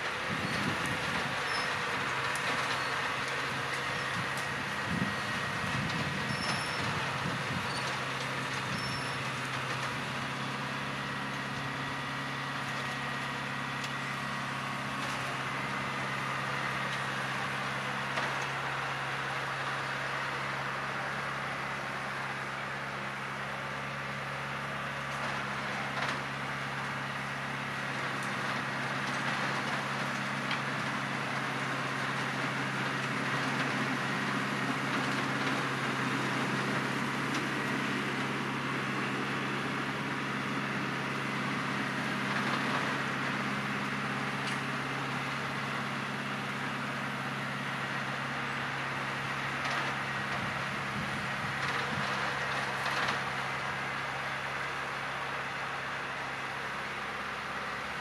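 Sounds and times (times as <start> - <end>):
tractor engine droning: 0.0 - 58.0.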